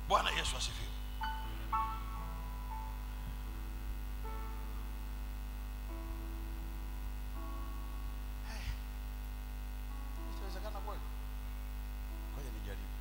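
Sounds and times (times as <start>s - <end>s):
slow sustained chords: 0.0s - 8.5s, 9.3s - 13.0s
low mains hum: 0.0s - 13.0s.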